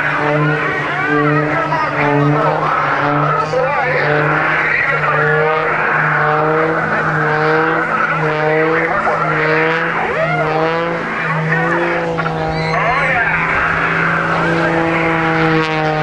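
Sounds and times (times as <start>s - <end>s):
propeller plane engine: 0.0s - 16.0s.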